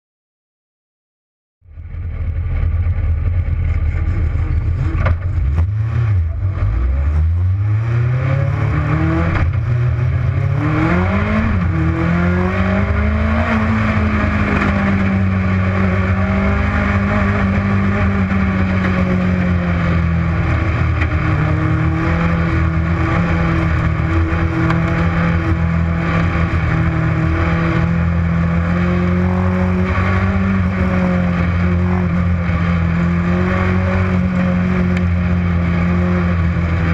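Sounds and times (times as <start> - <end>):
constant low rumble: 1.6 - 36.9
race car engine accelerating: 1.8 - 36.9.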